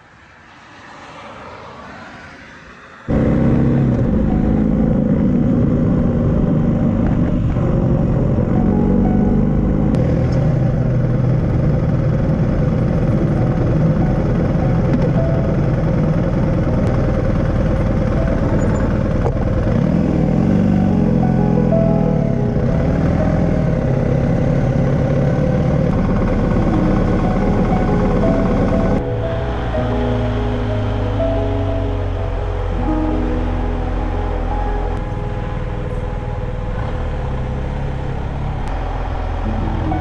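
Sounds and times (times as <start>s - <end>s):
motorcycle engine running: 3.1s - 40.0s.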